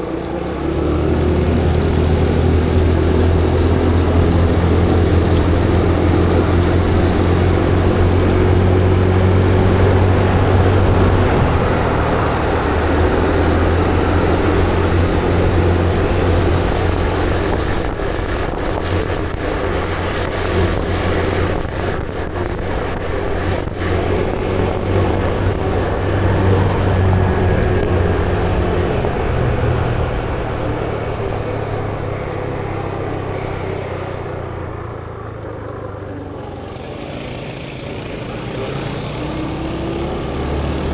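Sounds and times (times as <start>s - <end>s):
road and wind noise: 0.0s - 40.9s
vehicle engine running: 0.0s - 40.9s.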